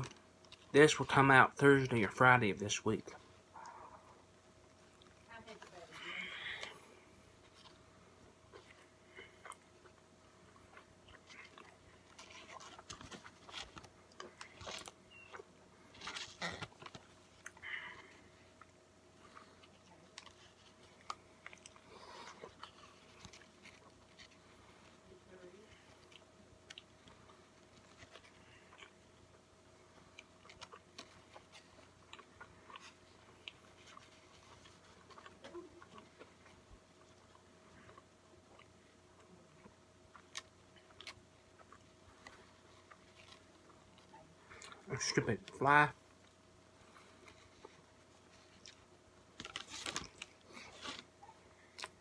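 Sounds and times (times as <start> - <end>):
chewing burger close-up: 0.0 - 52.0
faint steady hum: 0.0 - 52.0.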